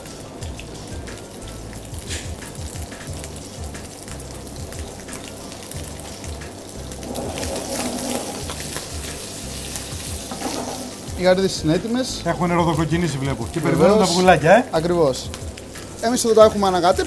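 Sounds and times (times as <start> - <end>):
shrimp sizzling in oil: 0.0 - 17.0.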